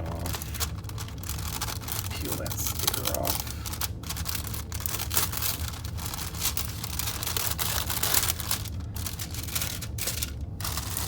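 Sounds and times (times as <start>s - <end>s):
tissue paper rustling and crinkling: 0.0s - 11.0s.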